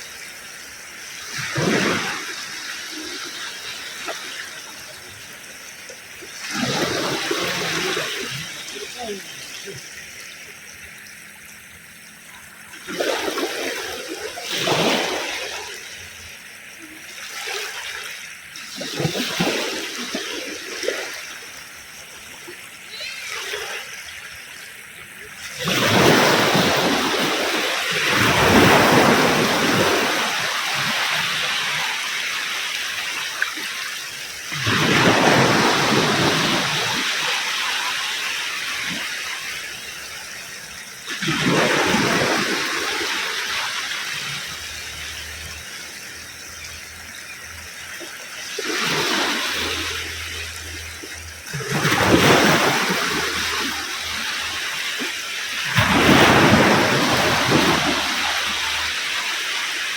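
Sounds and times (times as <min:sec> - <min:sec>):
ocean waves crashing on beach: 0:00.0 - 0:59.9
waves washing out with rushing hiss: 0:00.0 - 0:59.9.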